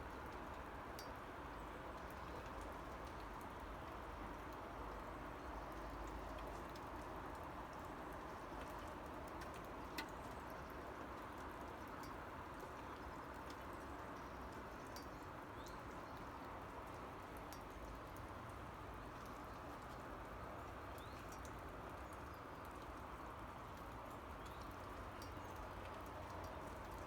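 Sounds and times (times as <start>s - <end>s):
light rain falling: 0.0s - 27.0s
drips ticking: 0.2s - 27.0s.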